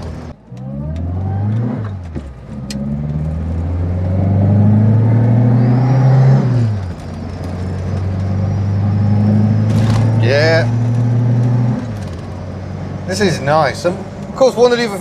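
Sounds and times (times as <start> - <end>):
car engine from inside cabin: 0.0 - 15.0.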